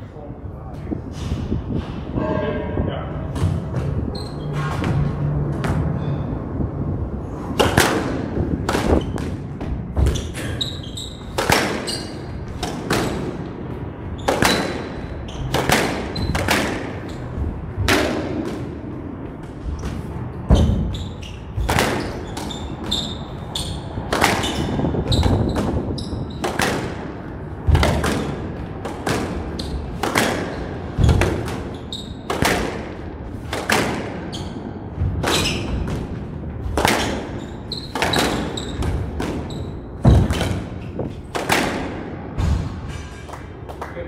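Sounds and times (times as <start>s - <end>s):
squash ball hitting racquets and walls: 1.0s - 43.9s.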